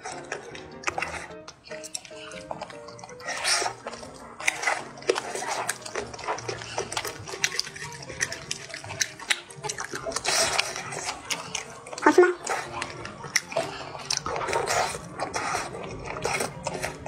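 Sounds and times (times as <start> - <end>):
wet chewing and lip-smacking: 0.0 - 17.0.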